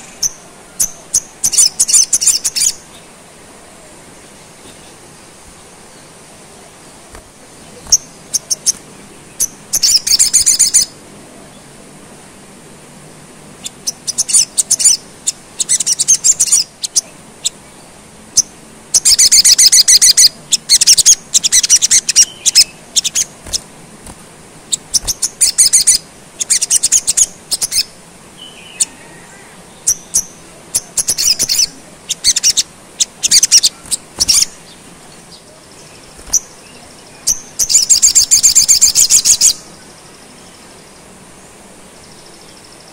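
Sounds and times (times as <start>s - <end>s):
bird trills and chirps: 0.0s - 3.1s, 7.0s - 11.6s, 13.6s - 41.2s.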